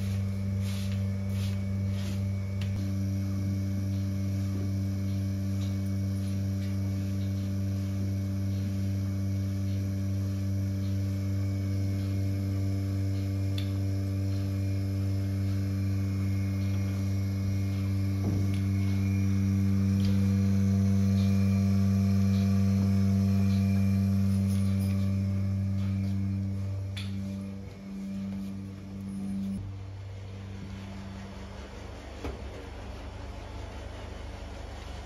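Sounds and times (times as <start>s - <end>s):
milking machine electric hum: 0.0s - 35.0s.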